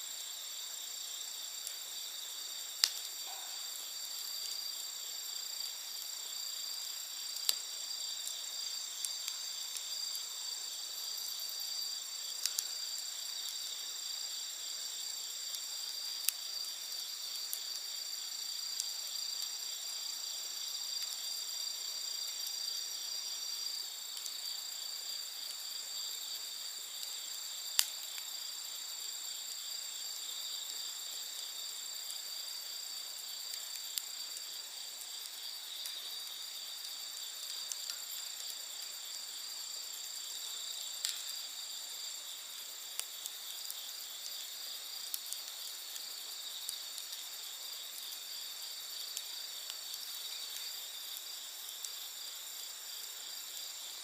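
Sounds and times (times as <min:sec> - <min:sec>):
campfire crackling and popping: 0:00.0 - 0:54.0
night insects trilling: 0:00.0 - 0:54.0.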